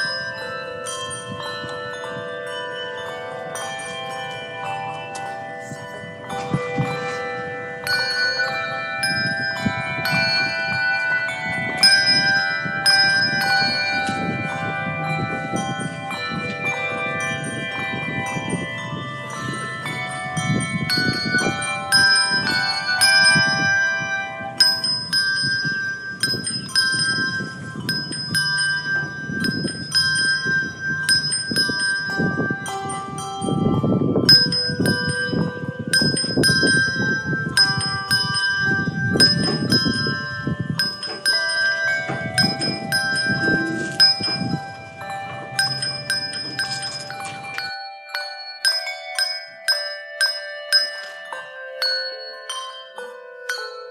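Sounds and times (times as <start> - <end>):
bells playing a melody: 0.0 - 53.9.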